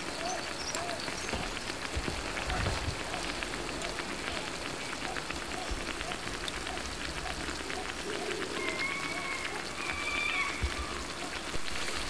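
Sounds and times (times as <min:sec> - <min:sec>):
frying oil sizzling and popping: 0:00.0 - 0:12.0.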